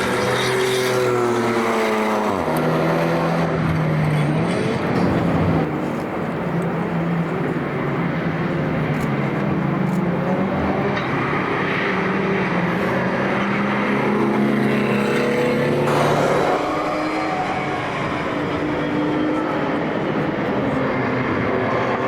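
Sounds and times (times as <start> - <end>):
racing car engines passing: 0.0 - 22.0.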